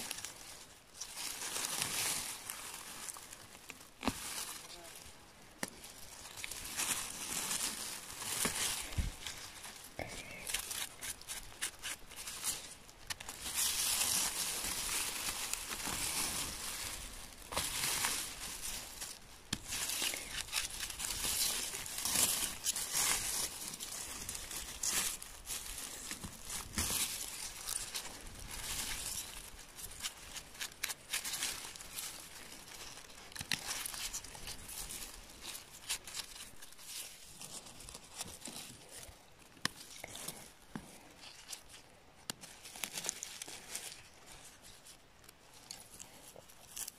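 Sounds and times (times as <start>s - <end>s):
rustling of dry grass and twigs: 0.0s - 46.9s.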